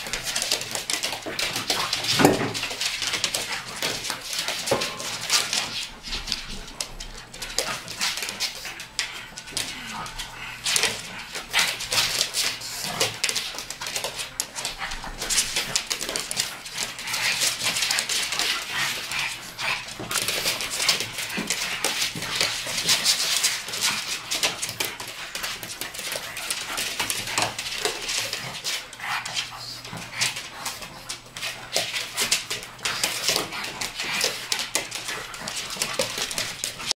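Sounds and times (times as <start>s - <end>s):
dogs scuffling: 0.0s - 37.0s
dogs vocalizing: 0.0s - 37.0s.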